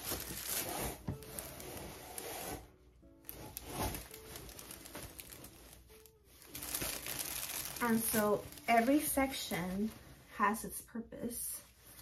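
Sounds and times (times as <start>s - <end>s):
fabric rustling: 0.0s - 12.0s
soft background music: 0.0s - 12.0s.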